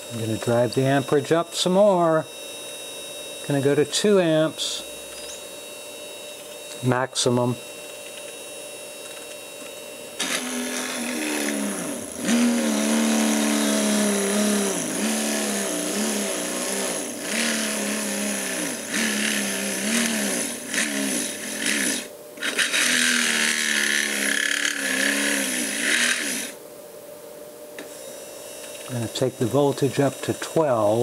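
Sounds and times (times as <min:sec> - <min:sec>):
drill press motor whining: 0:00.0 - 0:26.6, 0:27.8 - 0:31.0.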